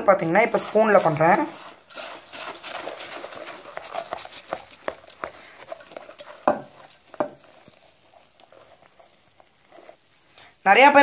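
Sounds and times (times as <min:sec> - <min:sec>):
spoon scraping steel bowl: 0:00.0 - 0:10.4.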